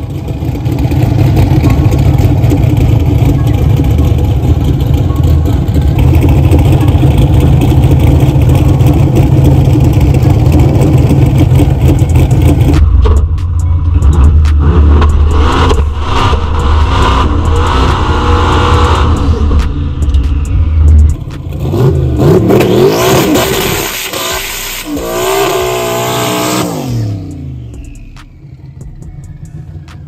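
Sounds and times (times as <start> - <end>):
car engine running with crackling: 0.0 - 30.0.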